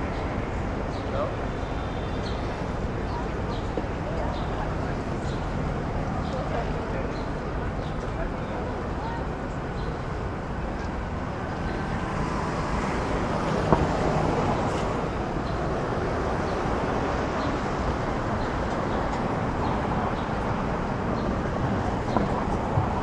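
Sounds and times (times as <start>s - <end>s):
cars rushing on street: 0.0s - 23.0s.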